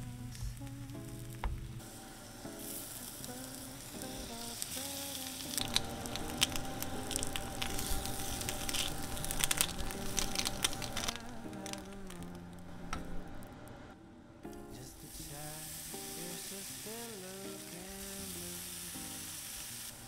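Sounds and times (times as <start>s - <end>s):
bread sizzling in a skillet: 0.0s - 12.4s, 14.8s - 20.0s
soft background music: 0.0s - 20.0s.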